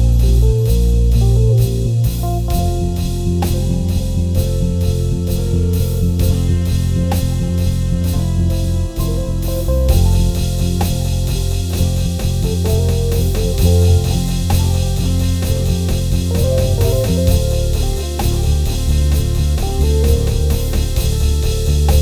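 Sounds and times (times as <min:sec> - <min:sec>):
drum kit steady beat: 0:00.0 - 0:22.0
gospel keyboard chords: 0:00.0 - 0:22.0.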